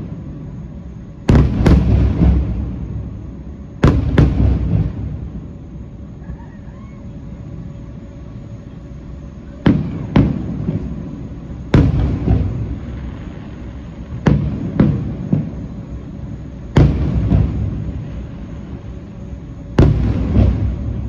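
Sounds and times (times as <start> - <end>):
fireworks bangs with echo: 0.0 - 5.6, 9.4 - 21.0.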